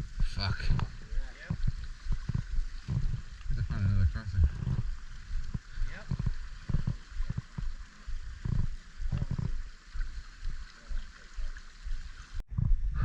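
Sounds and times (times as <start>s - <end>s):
low thumps and rumbles: 0.0s - 10.6s, 11.8s - 13.0s
stream water running: 0.0s - 13.0s.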